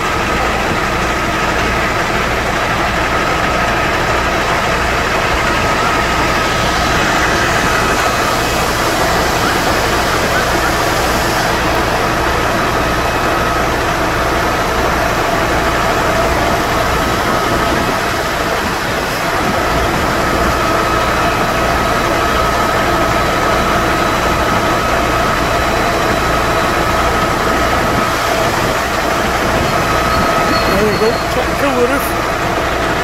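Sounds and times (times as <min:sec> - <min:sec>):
fire engine pump drone: 0:00.0 - 0:33.0
high pump whine: 0:00.0 - 0:33.0.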